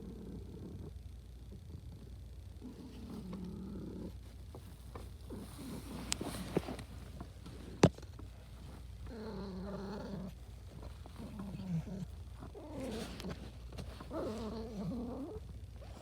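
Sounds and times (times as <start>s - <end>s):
cat contented murmurs: 0.0s - 6.6s, 8.6s - 16.0s
cat purring: 0.0s - 16.0s.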